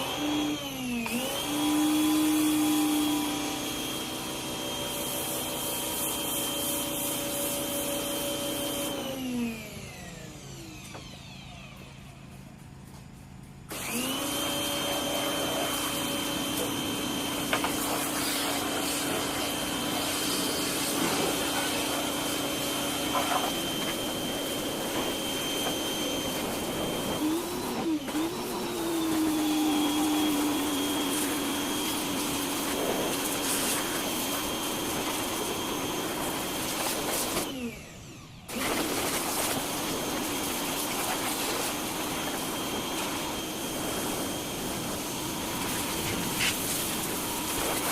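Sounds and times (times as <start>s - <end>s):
pressure washer motor whining: 0.0s - 12.7s, 13.7s - 47.9s.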